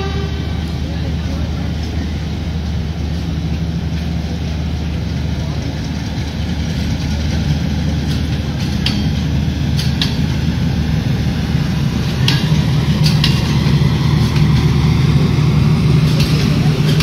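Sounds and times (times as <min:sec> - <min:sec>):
generator low drone: 0:00.0 - 0:17.0
train coaches rumbling past: 0:00.0 - 0:17.0.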